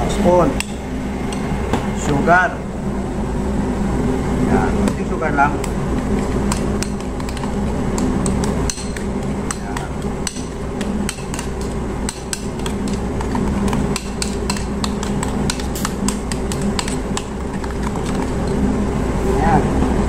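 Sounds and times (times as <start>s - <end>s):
background hum: 0.0s - 20.0s.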